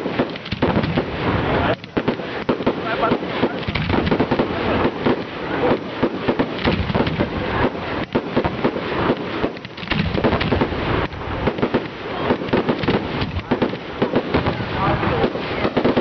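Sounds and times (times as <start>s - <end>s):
fireworks bangs and crackle: 0.0s - 16.0s.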